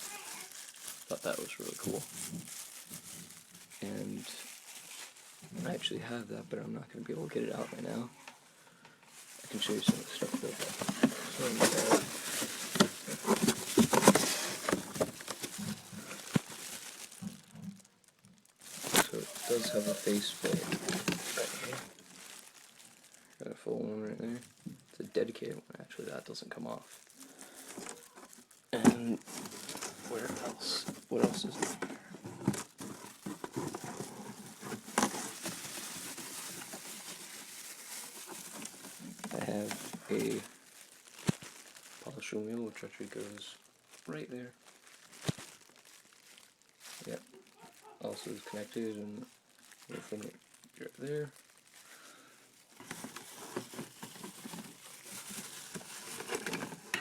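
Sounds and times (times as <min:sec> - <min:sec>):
rustling: 0:00.0 - 0:06.3, 0:09.0 - 0:57.0.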